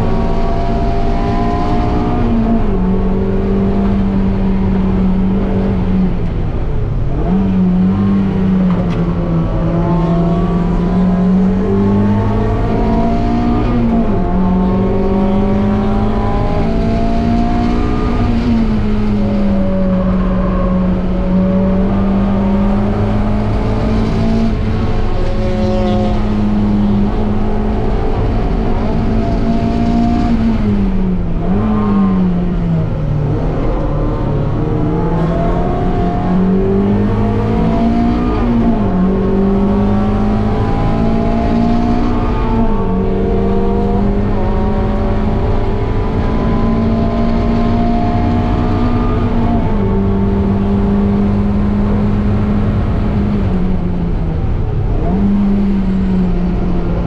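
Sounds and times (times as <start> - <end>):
car engine revving on track: 0.0 - 57.0.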